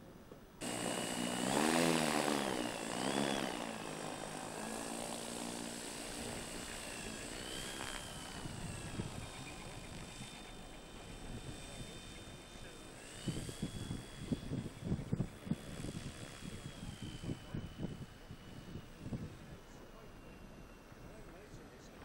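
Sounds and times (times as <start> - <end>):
electric motor whine: 0.6 - 21.9
propeller buzz: 0.6 - 22.0.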